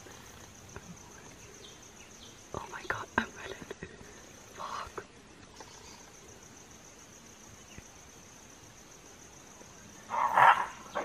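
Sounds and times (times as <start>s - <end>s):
faint hiss: 0.0s - 11.0s
insects droning: 0.0s - 11.0s.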